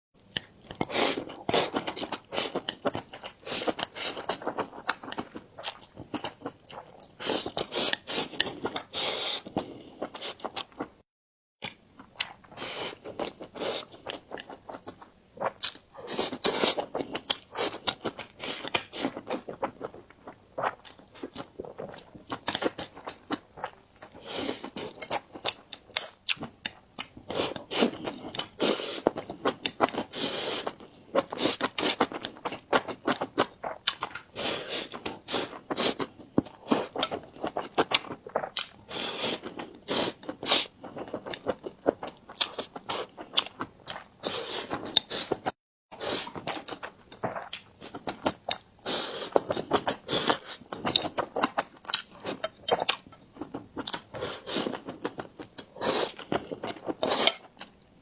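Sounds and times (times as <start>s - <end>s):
person chewing food: 0.3s - 11.0s, 11.6s - 58.0s.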